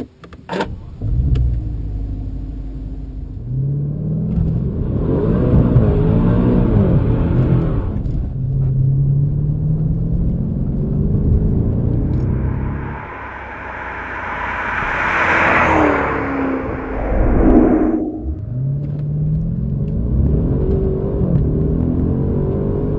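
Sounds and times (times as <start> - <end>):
car engine accelerating: 1.0 - 22.9.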